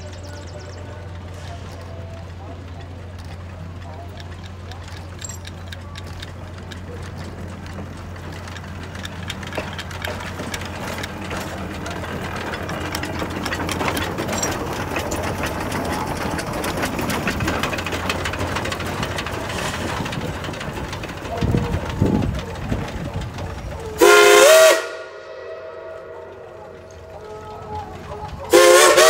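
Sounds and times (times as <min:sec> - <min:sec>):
geared drive clatter: 0:00.0 - 0:24.0
steam locomotive chuffing: 0:00.0 - 0:29.0.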